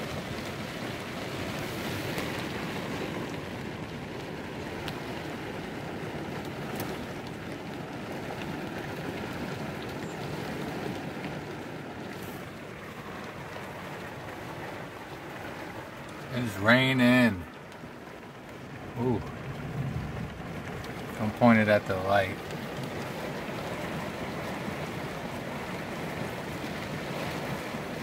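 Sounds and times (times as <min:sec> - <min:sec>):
rain on a vehicle roof: 0:00.0 - 0:28.0
raindrop ticks: 0:00.0 - 0:28.0.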